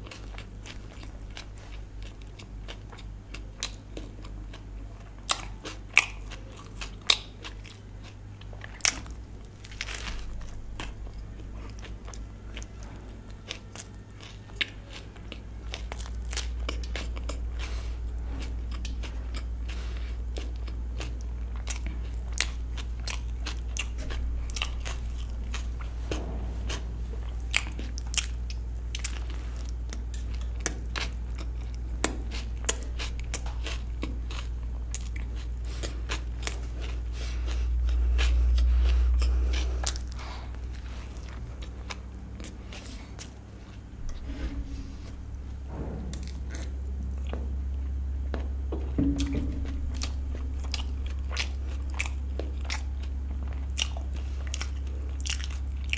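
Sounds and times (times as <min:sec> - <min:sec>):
low steady hum: 0:00.0 - 0:55.9
person chewing food: 0:00.0 - 0:55.9.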